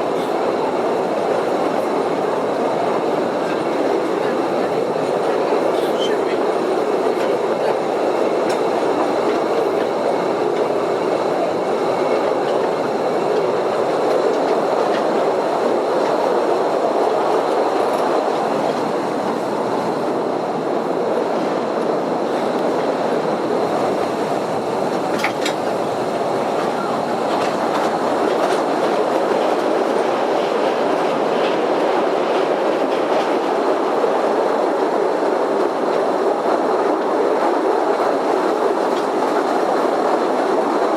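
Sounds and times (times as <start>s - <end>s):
train wheels rumbling and rattling: 0.0s - 40.9s.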